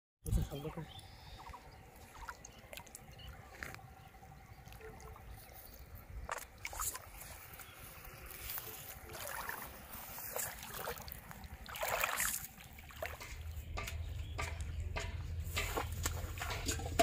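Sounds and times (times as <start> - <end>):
shallow water splashing: 0.6 - 14.5.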